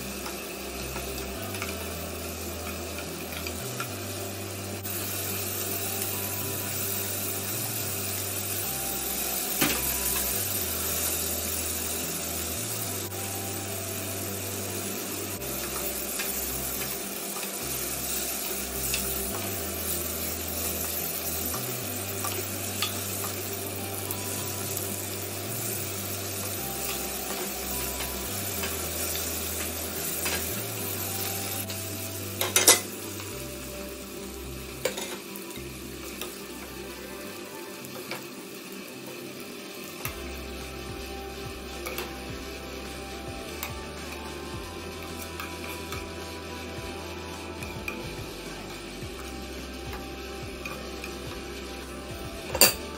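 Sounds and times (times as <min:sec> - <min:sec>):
vegetables sizzling in a pot: 0:00.0 - 0:52.9.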